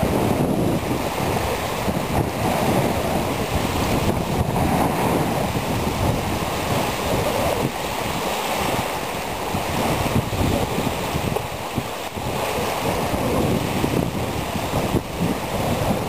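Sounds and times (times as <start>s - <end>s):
waves lapping at shore: 0.0s - 16.0s
wind buffeting microphone: 0.0s - 16.0s.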